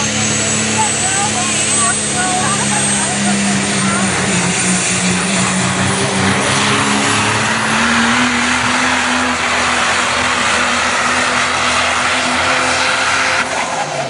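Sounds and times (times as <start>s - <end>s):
diesel truck engine under load: 0.0s - 14.0s.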